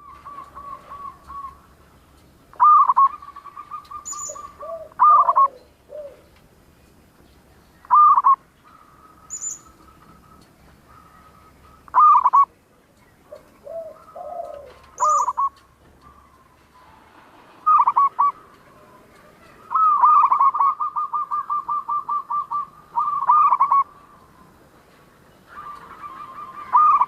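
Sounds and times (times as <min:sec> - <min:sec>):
dove cooing: 0:00.0 - 0:01.8, 0:02.5 - 0:06.3, 0:07.8 - 0:12.6, 0:13.2 - 0:17.0, 0:17.6 - 0:24.6, 0:25.5 - 0:27.0.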